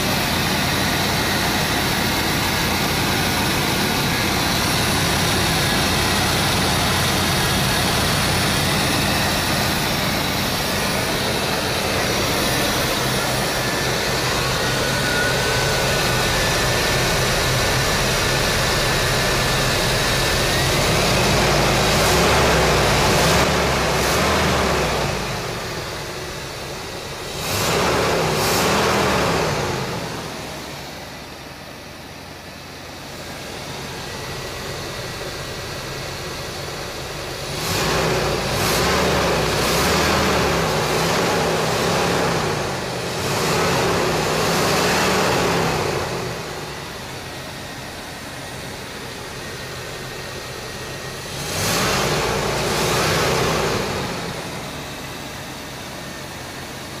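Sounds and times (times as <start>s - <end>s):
engine idling and revving: 0.0s - 57.0s.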